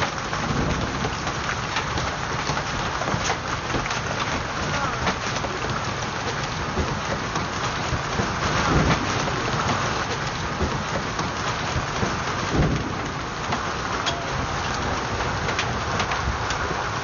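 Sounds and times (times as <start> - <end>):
hail and rain pelting down: 0.0 - 17.0
hailstones knocking hard surfaces: 0.0 - 17.0
low rumbles: 0.0 - 17.0.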